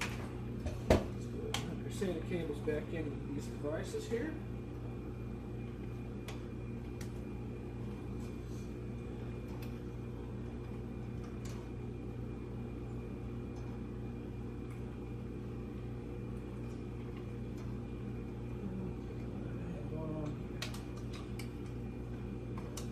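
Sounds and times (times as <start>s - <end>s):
low mechanical hum: 0.0s - 22.9s.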